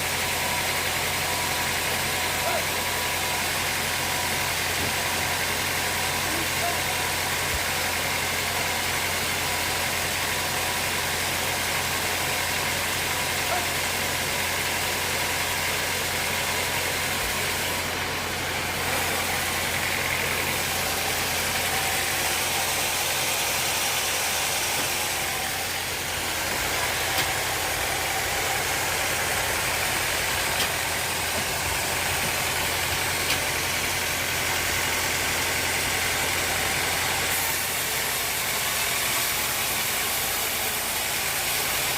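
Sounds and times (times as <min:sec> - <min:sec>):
sawmill motor humming: 0:00.0 - 0:41.9.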